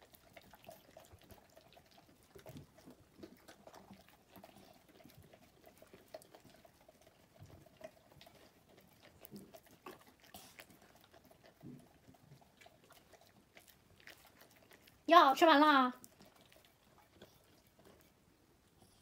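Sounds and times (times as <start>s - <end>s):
dog licking and eating: 0.0s - 19.0s.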